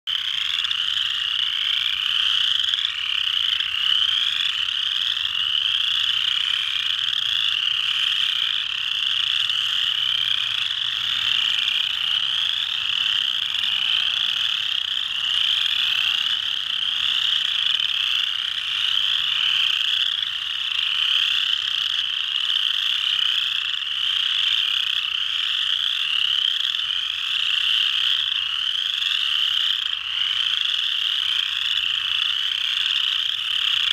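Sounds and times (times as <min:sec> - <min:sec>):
chorus frogs trilling: 0:00.1 - 0:33.9.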